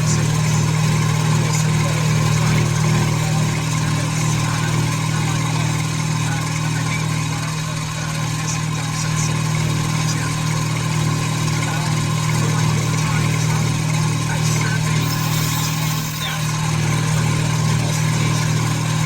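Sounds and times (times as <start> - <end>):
machine motor humming: 0.0 - 19.0.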